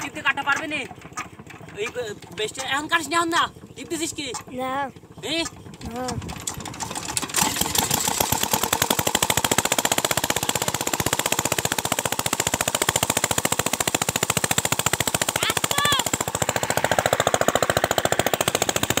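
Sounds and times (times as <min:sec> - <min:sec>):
diesel engine chugging: 0:00.0 - 0:19.0.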